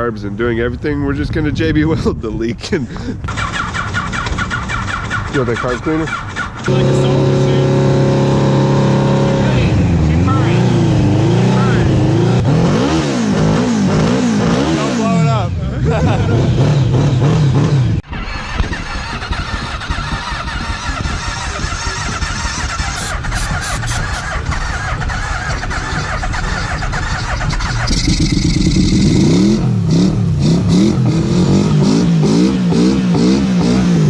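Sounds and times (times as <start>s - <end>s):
motorcycle engines running roughly: 2.9s - 34.0s
engine revving: 3.3s - 34.0s.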